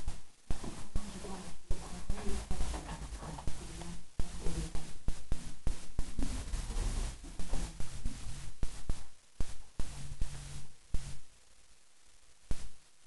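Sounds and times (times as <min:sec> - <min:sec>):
faint low hum: 0:00.0 - 0:13.0
close rustling: 0:00.5 - 0:11.1.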